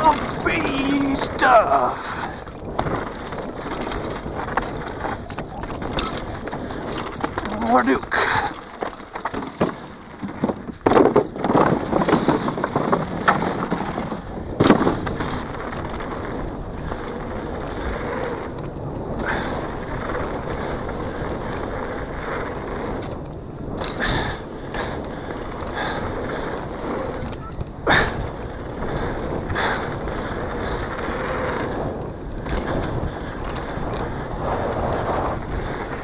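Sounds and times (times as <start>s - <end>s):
mountain bike clattering over rocks: 0.0s - 36.0s
tyres rolling on dirt: 0.0s - 36.0s.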